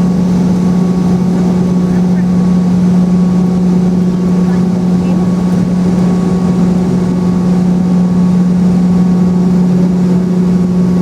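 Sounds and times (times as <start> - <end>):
airplane cabin engine drone: 0.0 - 11.0
high engine whine: 0.0 - 11.0.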